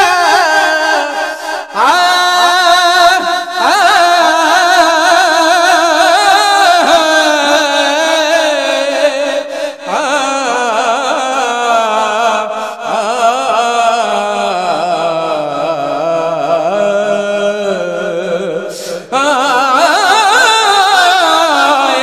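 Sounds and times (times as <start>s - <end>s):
man singing with vibrato: 0.0s - 22.0s.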